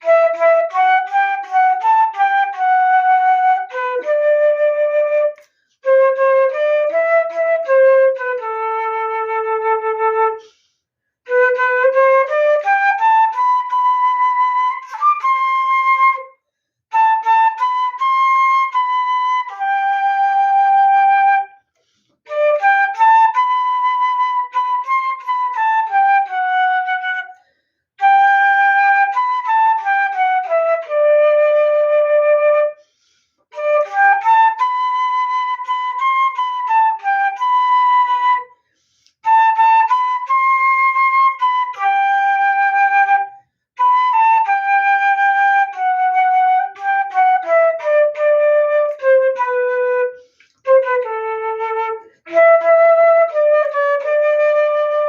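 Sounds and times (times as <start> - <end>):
solo flute melody: 0.0 - 55.0.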